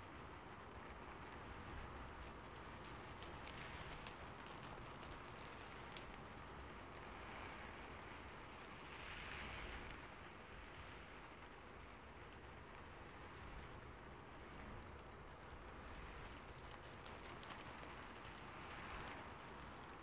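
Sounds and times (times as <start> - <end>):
faint rain on a rooftop: 0.0 - 20.0.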